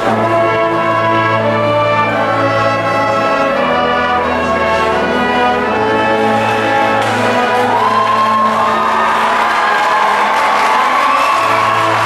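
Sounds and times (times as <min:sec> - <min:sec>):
brass band playing chords: 0:00.0 - 0:12.0.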